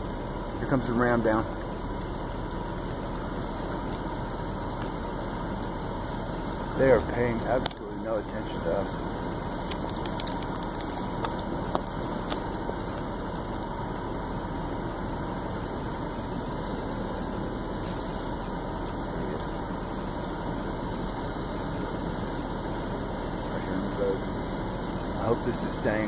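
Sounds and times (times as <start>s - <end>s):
car engine hum inside cabin: 0.0s - 26.0s.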